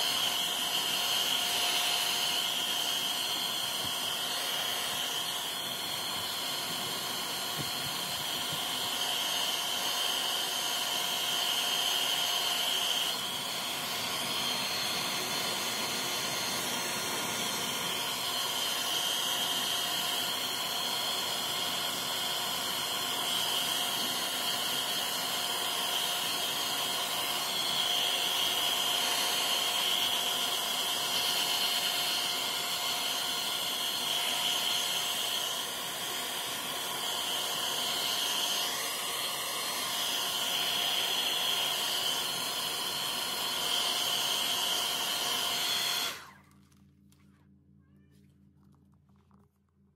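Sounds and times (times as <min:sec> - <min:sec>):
hair dryer blowing: 0:00.0 - 0:46.5.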